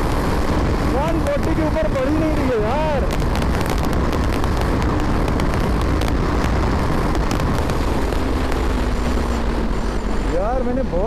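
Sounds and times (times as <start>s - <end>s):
motorcycle engine at full throttle: 0.0s - 11.0s
wind rushing over microphone: 0.0s - 11.0s.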